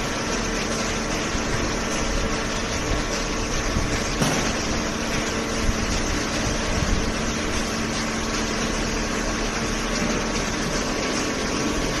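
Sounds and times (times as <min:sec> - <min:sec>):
hydraulic pump motor humming: 0:00.0 - 0:12.0.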